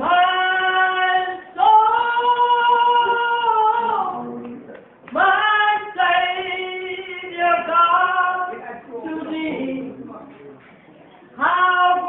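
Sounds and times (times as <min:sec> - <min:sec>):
woman singing a hymn: 0:00.0 - 0:10.1, 0:11.4 - 0:12.0.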